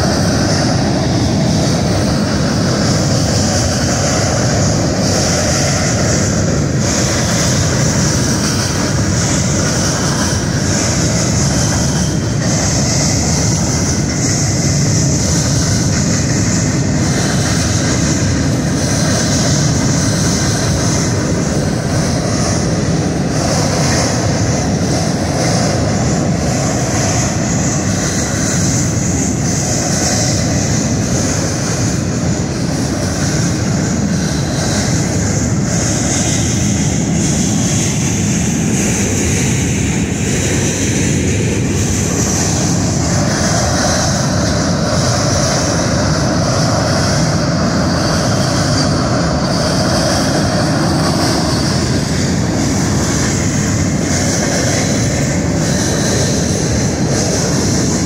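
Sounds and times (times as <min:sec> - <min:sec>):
freight train rumbling over bridge: 0:00.0 - 0:58.0
hiss: 0:00.0 - 0:58.0.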